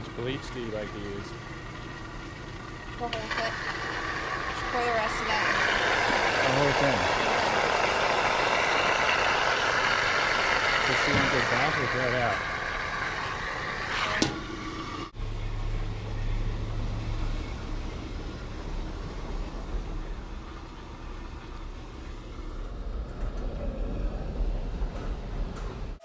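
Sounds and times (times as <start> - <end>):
vehicle rumbling on road: 0.0 - 26.0.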